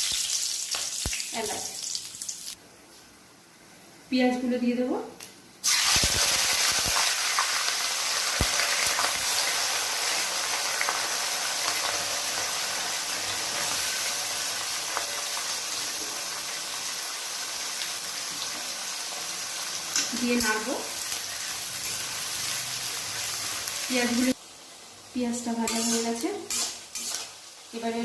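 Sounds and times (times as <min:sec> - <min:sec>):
onions sizzling in hot oil: 0:00.0 - 0:02.6, 0:05.6 - 0:28.0.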